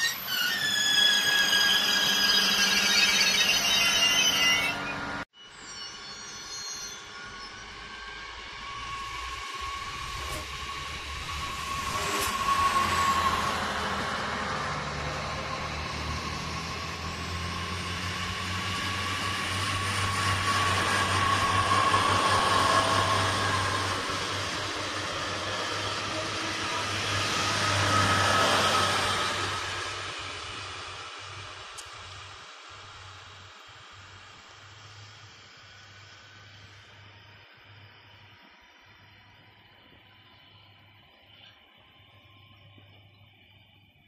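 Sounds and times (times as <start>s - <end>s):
train rumbling past: 0.0s - 43.6s
high train whine: 0.0s - 44.0s.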